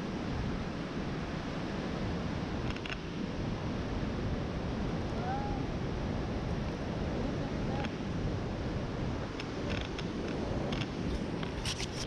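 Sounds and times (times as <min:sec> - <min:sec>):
waterfall roaring over rocks: 0:00.0 - 0:11.4.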